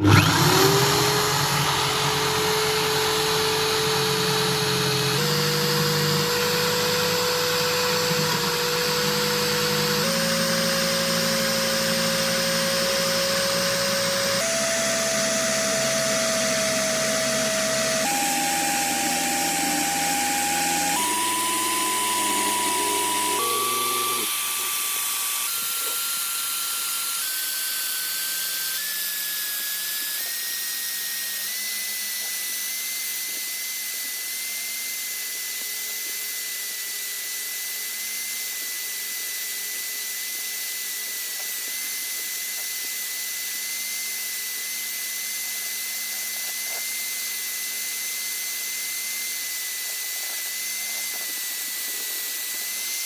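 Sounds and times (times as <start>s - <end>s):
power tool motor whining: 0.0s - 53.0s.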